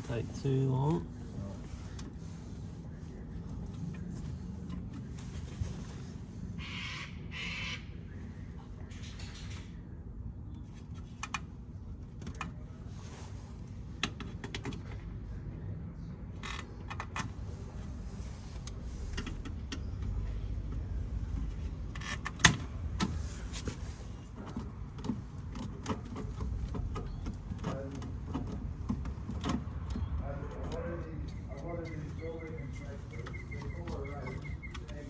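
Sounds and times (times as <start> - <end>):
low background rumble: 0.0 - 35.0.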